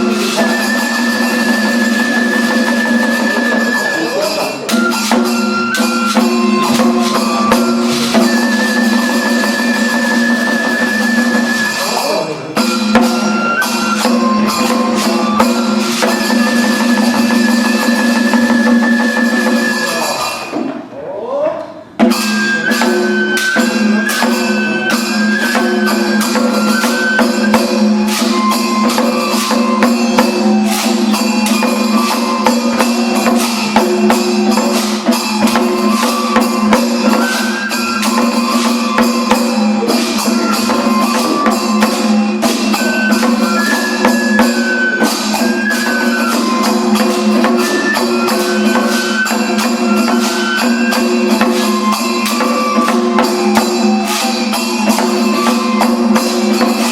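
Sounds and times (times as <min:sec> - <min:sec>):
high piping melody: 0:00.0 - 0:20.5, 0:22.1 - 0:56.9
drum and cymbal strikes: 0:00.0 - 0:20.9, 0:21.8 - 0:56.9.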